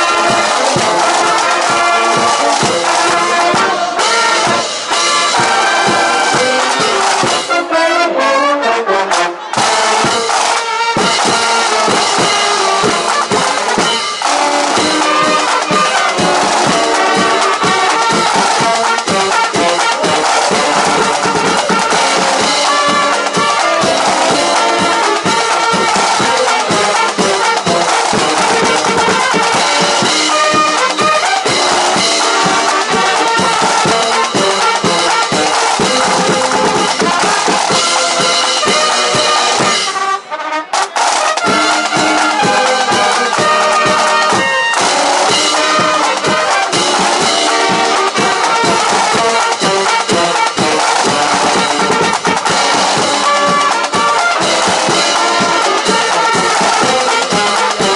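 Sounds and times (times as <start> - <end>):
brass band playing: 0.0 - 57.9.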